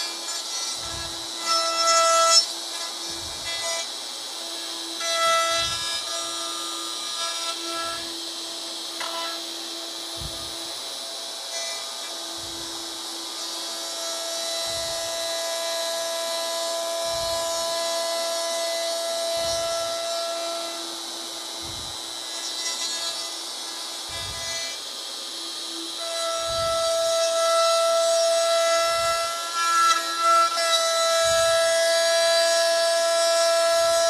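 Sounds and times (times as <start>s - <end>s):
router whining while cutting wood: 0.0s - 34.0s.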